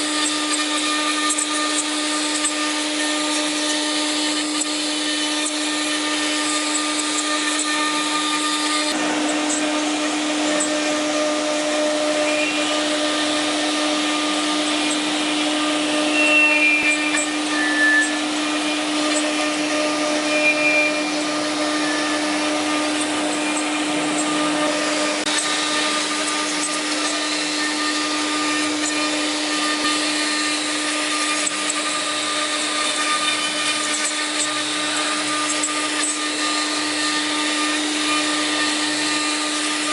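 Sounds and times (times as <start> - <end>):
cutter working wood: 0.0 - 39.9
router spindle whine: 0.0 - 39.9
high squeals: 4.1 - 39.9.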